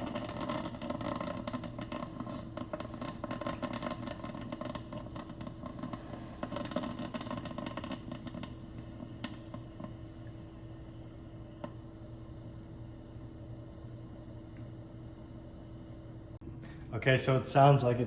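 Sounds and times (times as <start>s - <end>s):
coffee maker gurgling and sputtering: 0.0s - 15.6s
low hum: 0.0s - 18.0s.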